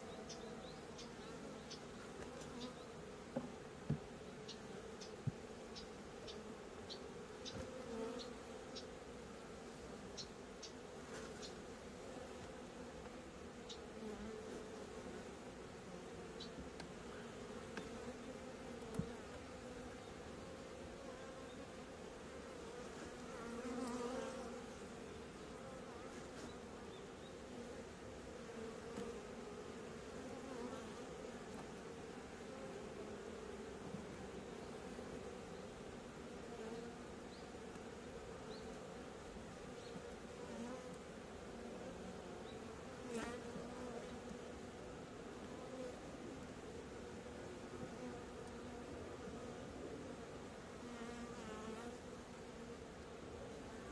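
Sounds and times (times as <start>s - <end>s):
honeybees buzzing: 0.0s - 53.9s.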